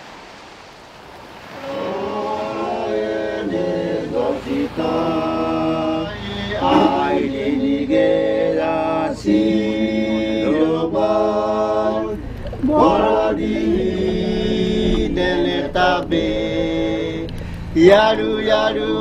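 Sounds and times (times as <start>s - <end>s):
voices singing a slow chant: 1.4s - 19.0s.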